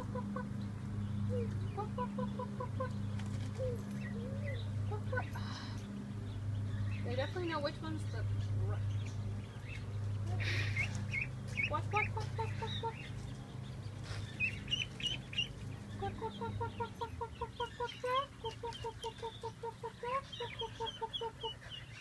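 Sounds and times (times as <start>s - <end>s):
ducklings peeping: 0.0s - 22.0s
low hum: 0.0s - 22.0s.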